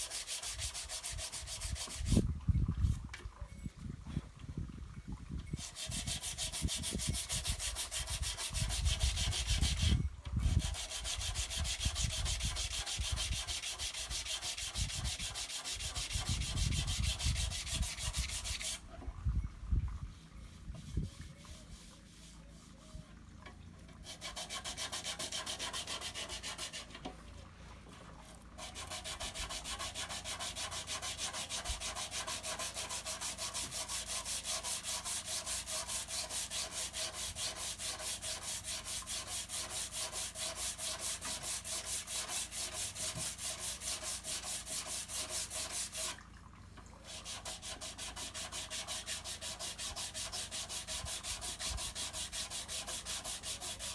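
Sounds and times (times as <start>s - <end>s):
sandpaper sanding filler: 0.0s - 2.2s, 5.6s - 18.8s, 20.8s - 22.9s, 24.0s - 27.0s, 28.2s - 46.2s, 47.1s - 53.9s.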